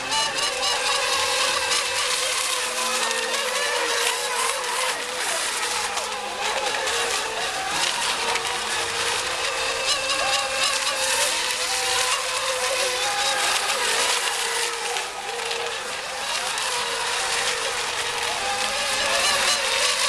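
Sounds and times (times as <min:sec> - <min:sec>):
high motor whines of rc boats: 0:00.0 - 0:20.0.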